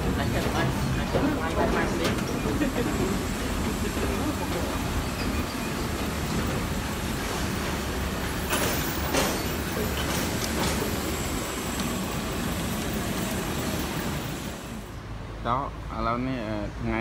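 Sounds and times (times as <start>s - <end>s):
machinery roar: 0.0s - 15.4s.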